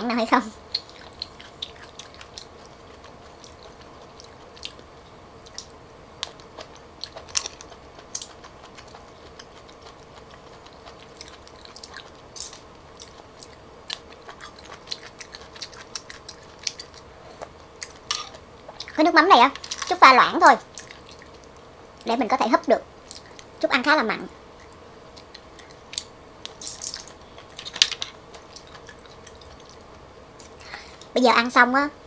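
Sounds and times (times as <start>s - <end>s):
faint steady hum: 0.0s - 32.0s
close-up chewing: 0.6s - 19.0s, 20.5s - 22.1s, 23.0s - 23.6s, 24.4s - 31.1s.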